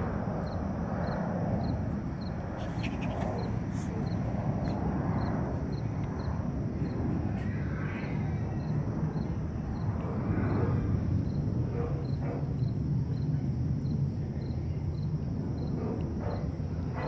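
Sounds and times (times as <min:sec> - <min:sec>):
jet airliner rumble overhead: 0:00.0 - 0:17.0.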